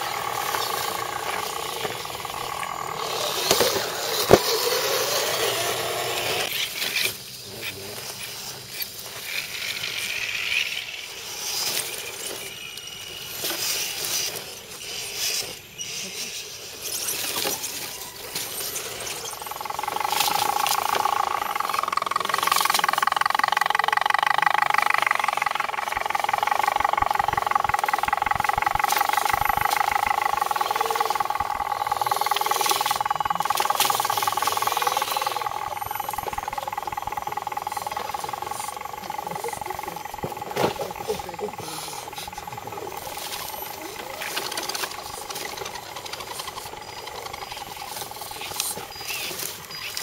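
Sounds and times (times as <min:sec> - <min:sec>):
electric motor and gearbox whine: 0:00.0 - 0:50.0.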